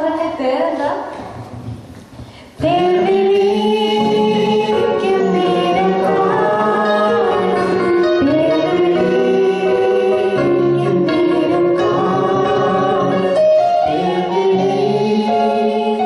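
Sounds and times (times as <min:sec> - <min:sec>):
people singing into microphones: 0:02.4 - 0:16.0.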